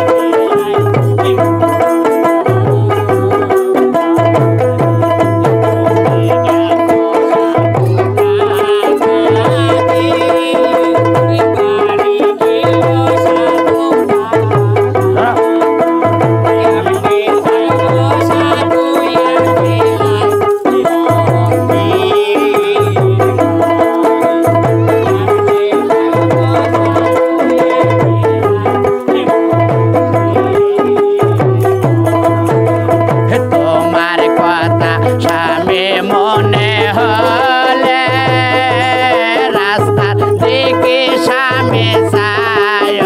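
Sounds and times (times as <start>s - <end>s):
plucked string melody: 0.0s - 43.0s
low drum beat: 0.3s - 43.0s.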